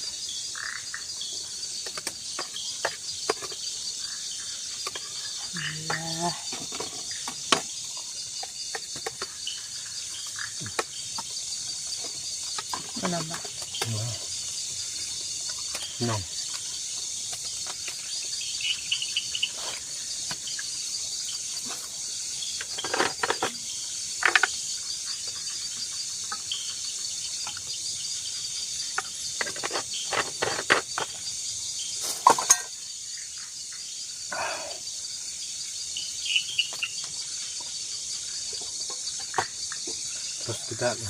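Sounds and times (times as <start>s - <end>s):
insects chirping chorus: 0.0s - 41.0s.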